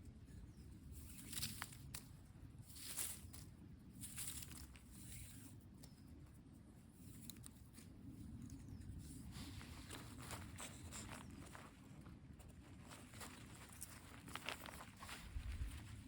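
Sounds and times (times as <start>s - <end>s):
rustling and crinkling: 0.9s - 16.0s.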